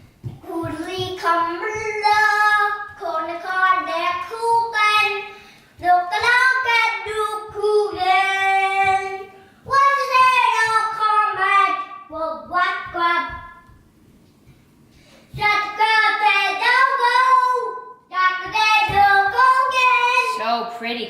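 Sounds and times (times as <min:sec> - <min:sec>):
child singing: 0:00.2 - 0:13.7, 0:15.3 - 0:20.4.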